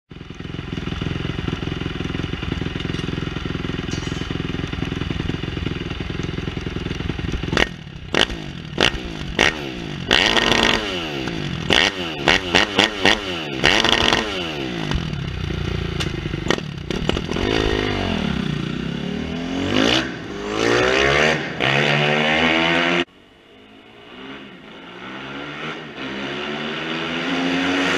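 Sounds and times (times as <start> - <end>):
motorcycle engine idling and revving: 0.1 - 27.9.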